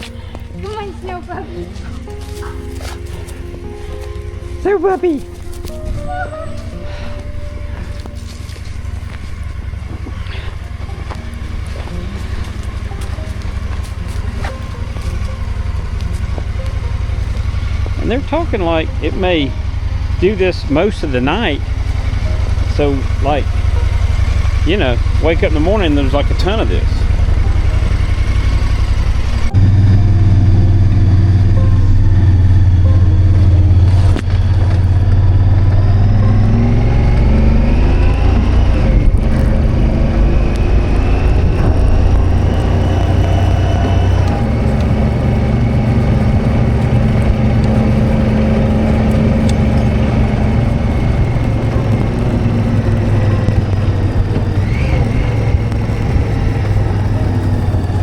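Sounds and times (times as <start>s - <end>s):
vehicle engine driving: 0.0s - 58.0s.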